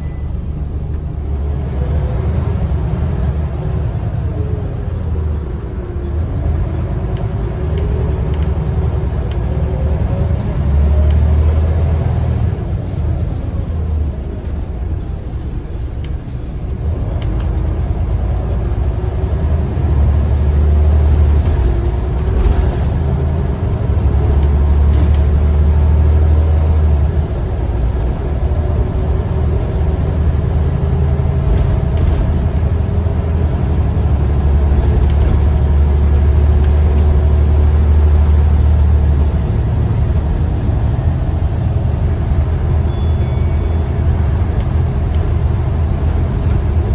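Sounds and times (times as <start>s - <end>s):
bus diesel engine rumbling: 0.0s - 46.9s.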